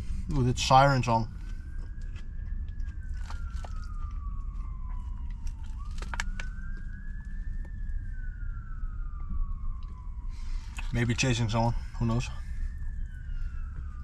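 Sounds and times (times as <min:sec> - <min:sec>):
low rumble: 0:00.0 - 0:14.0
police siren wailing: 0:00.0 - 0:14.0.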